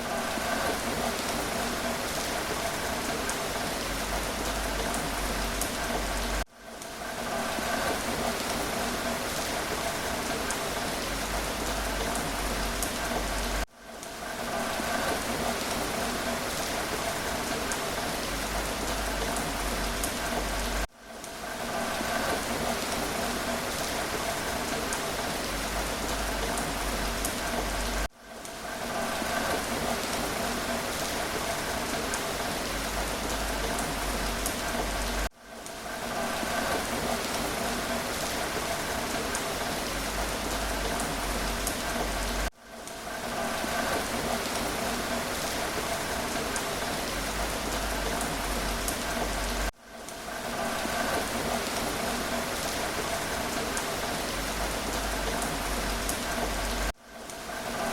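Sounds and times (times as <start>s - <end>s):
rain pattering on a surface: 0.0s - 57.9s.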